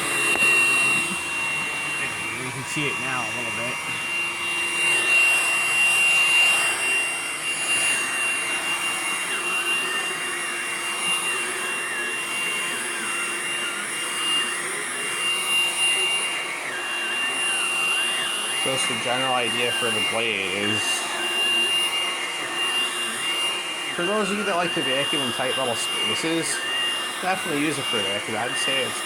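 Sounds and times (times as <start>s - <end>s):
vacuum cleaner motor whining: 0.0s - 29.0s.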